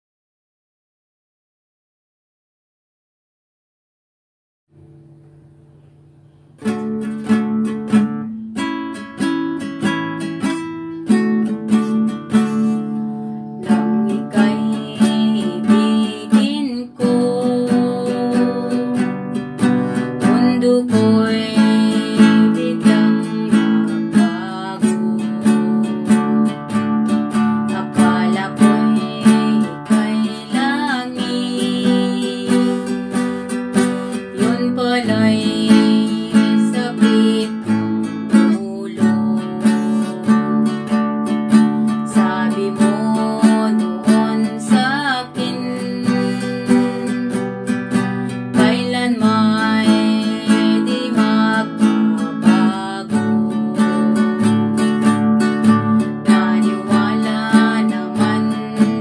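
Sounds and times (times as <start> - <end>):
acoustic guitar strumming: 4.8 - 59.0
woman singing: 9.2 - 59.0.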